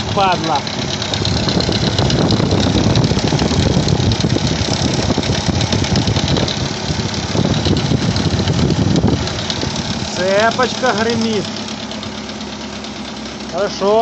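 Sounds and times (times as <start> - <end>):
timing chain rattle: 0.0 - 13.2
car engine idling: 0.0 - 14.0.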